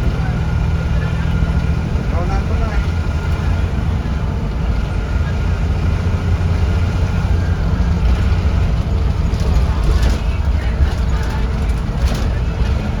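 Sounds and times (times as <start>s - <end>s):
bus engine low rumble: 0.0s - 13.0s.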